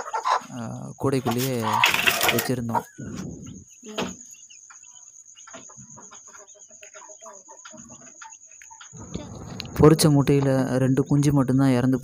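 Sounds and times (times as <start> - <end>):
hen clucking softly: 0.0 - 9.7.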